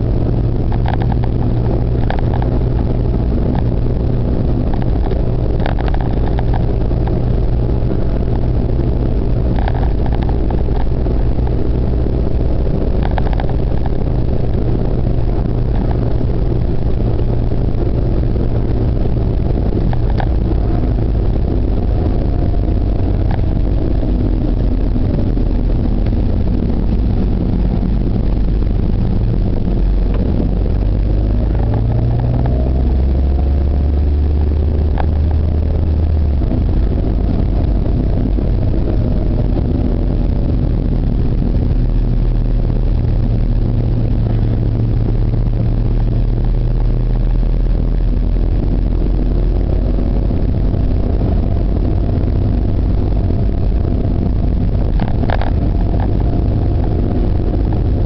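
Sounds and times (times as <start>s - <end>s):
car engine from inside cabin: 0.0s - 58.0s
road noise: 0.0s - 58.0s.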